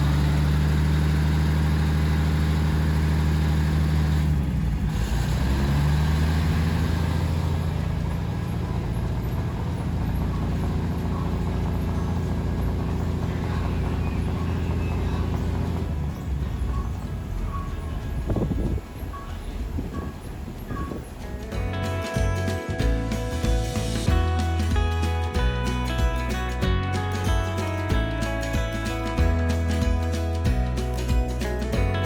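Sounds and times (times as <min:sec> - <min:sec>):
diesel train engine running: 0:00.0 - 0:32.0.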